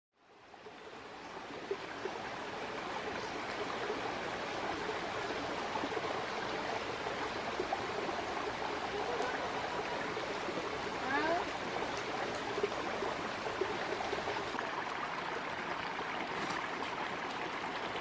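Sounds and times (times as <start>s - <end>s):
stream flowing over stones: 0.2s - 18.0s.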